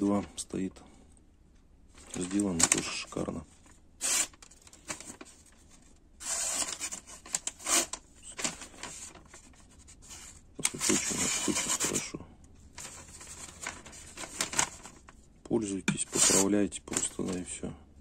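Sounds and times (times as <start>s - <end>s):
newspaper rustling and crinkling: 2.0s - 12.1s, 12.7s - 17.5s.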